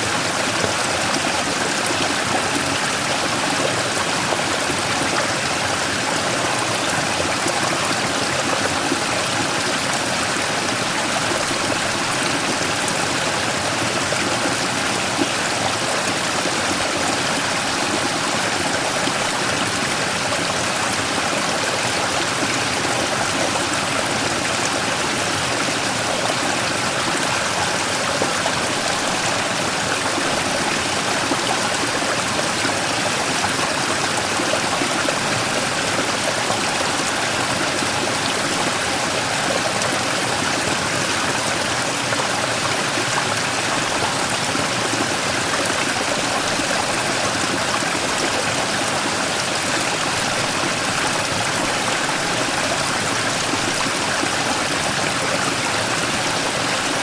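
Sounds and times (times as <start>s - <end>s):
stream rushing over rock: 0.0s - 57.0s.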